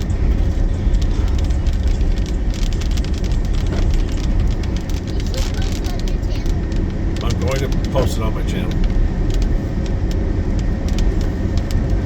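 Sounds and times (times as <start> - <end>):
raindrops ticking: 0.0 - 12.0
steady low rumble: 0.0 - 12.0.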